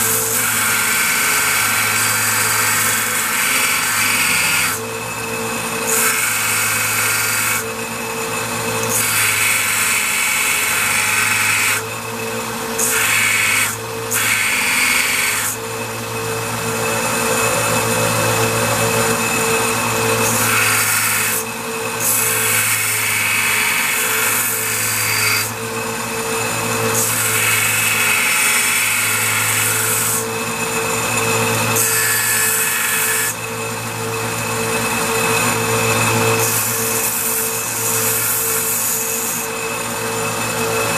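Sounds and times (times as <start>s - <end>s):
belt grinder motor humming: 0.0s - 40.9s.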